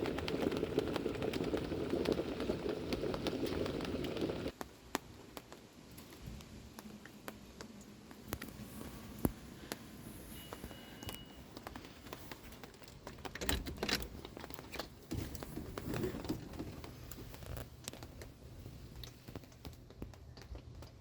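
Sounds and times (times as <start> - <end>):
rustling and crinkling: 0.0 - 21.0.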